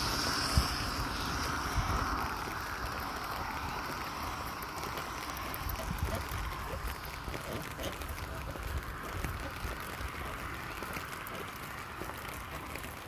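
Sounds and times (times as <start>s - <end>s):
rain on a wet street: 0.0s - 13.0s.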